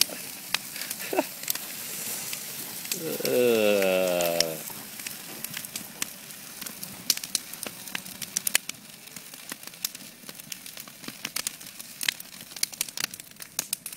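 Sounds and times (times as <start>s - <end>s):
faint hiss of flames: 0.0s - 13.9s
wood fire crackling and popping: 0.0s - 13.9s.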